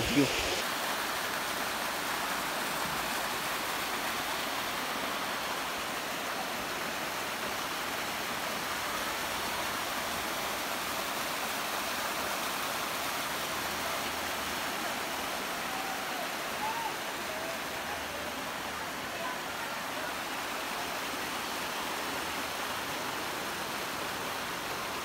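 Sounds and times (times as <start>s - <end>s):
waterfall rushing over rock: 0.0s - 25.0s.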